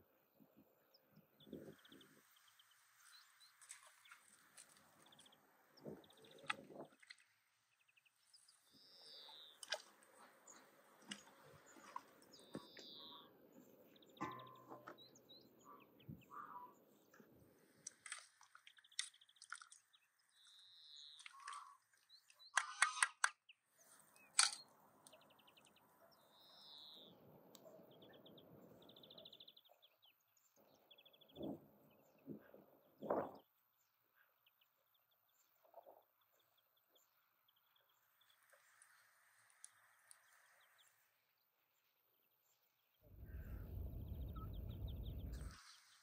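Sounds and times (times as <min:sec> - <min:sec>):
small birds chirping: 0:00.6 - 0:46.0.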